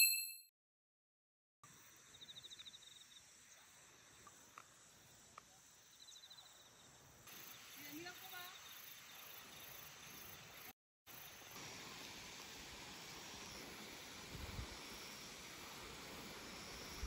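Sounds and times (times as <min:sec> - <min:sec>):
outdoor hiss: 0:02.8 - 0:17.0.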